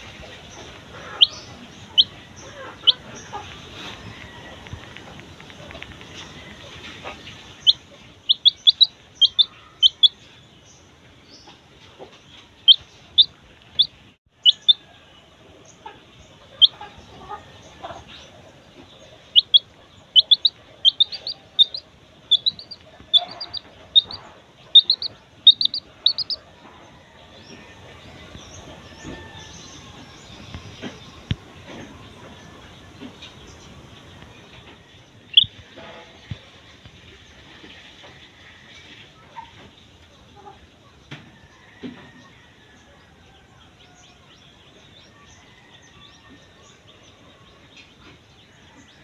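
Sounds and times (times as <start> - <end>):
chick peeping: 0.0 - 42.3.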